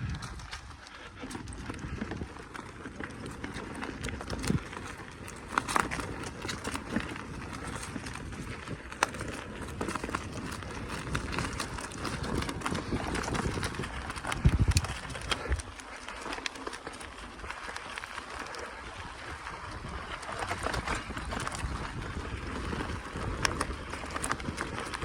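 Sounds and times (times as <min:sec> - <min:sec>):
bicycle tyres on rough track: 0:00.0 - 0:25.0
bike rattling and knocking: 0:00.0 - 0:25.0.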